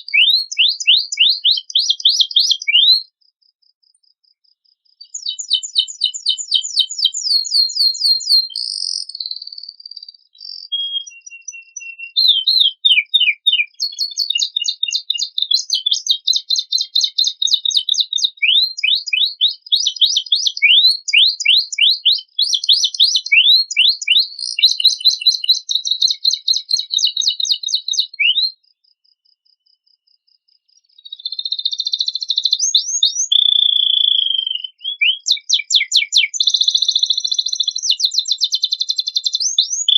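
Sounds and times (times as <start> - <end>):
canary singing: 0.0 - 3.1, 5.0 - 28.6, 31.0 - 39.9.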